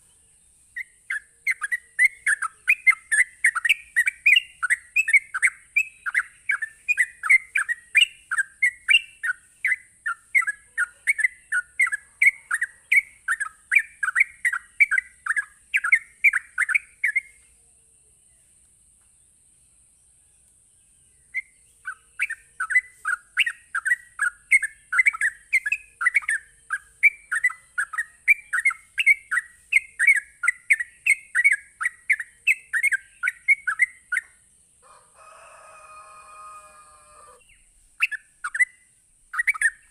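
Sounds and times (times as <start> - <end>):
bird singing rapid chirps: 0.0 - 17.4, 19.3 - 34.6, 37.2 - 39.9.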